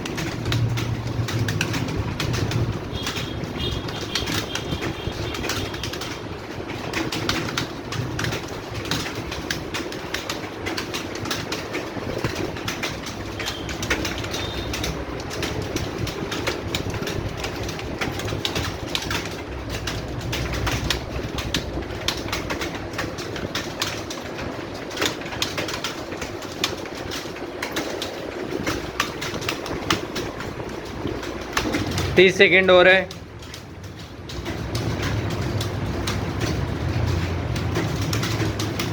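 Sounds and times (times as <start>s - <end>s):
keyboards typing clatter: 0.0s - 38.9s.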